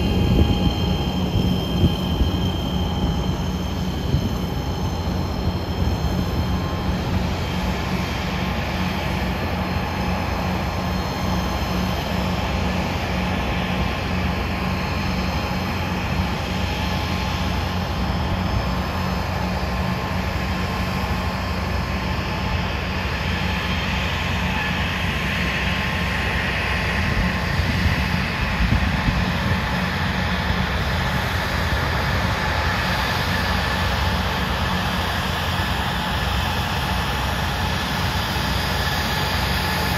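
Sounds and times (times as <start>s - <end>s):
high jet whine: 0.0s - 39.9s
jet engines rumbling: 0.0s - 39.9s.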